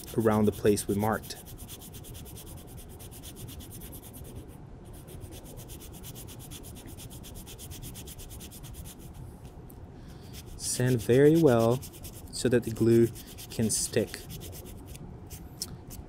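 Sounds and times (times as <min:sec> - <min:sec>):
sandpaper rubbing on rubber: 0:00.0 - 0:04.4, 0:05.0 - 0:09.2, 0:10.3 - 0:15.0.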